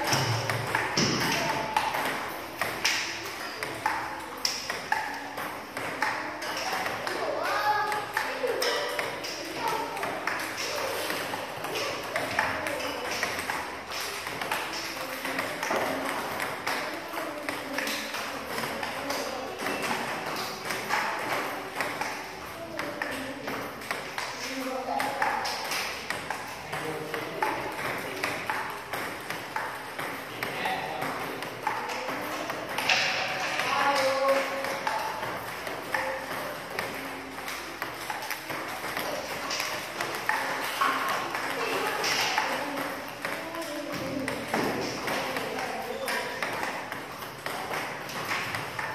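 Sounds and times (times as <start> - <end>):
faint children's voices: 0.0 - 48.9
table tennis balls clicking: 0.0 - 48.9.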